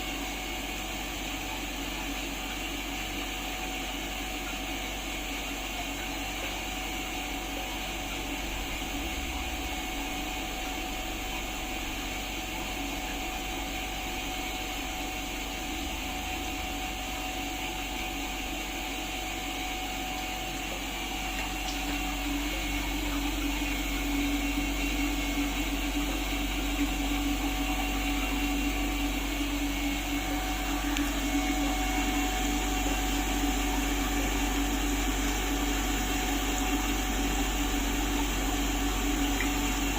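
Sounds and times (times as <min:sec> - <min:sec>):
humidifier motor whir: 0:00.0 - 0:39.9
low steady hum: 0:07.2 - 0:39.9.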